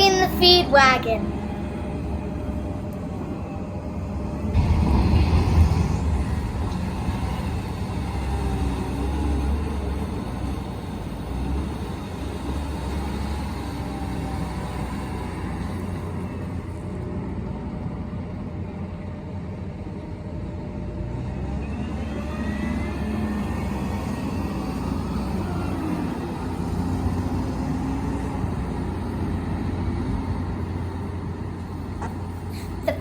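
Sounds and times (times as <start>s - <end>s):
farm machinery engine rumbling: 0.0s - 33.0s.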